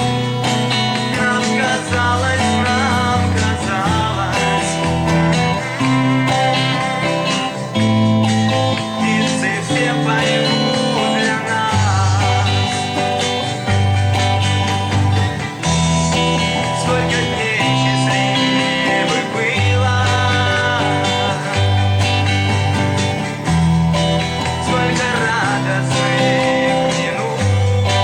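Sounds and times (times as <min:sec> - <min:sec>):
bass line: 0:00.0 - 0:28.0
guitar: 0:00.0 - 0:28.0
vibrato singing melody: 0:00.0 - 0:28.0.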